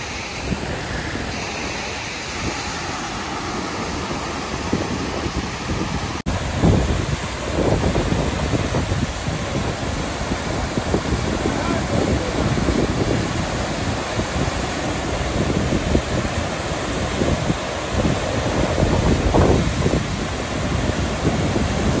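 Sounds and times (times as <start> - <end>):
river rushing over rapids: 0.0 - 22.0
wind buffeting microphone: 0.0 - 22.0.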